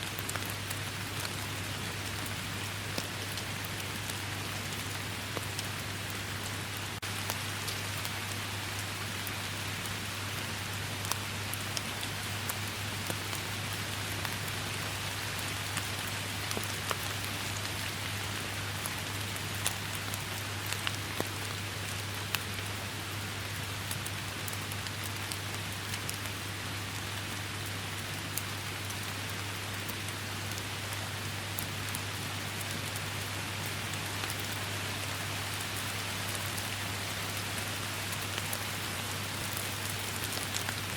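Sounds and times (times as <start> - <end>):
rain hissing: 0.0 - 40.9.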